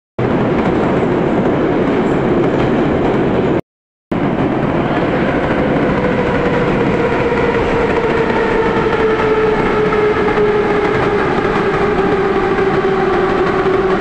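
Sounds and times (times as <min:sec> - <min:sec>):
train interior rumble: 0:00.2 - 0:14.0.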